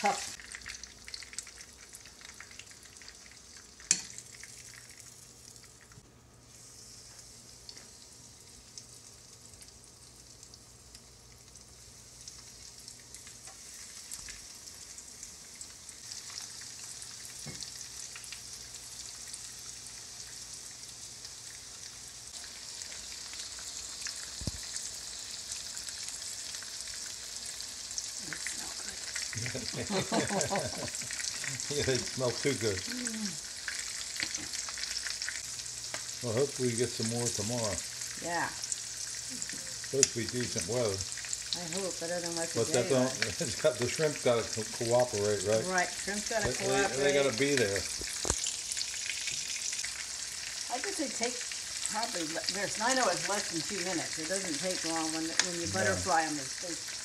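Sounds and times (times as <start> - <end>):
shrimp sizzling in oil: 0.0 - 57.0.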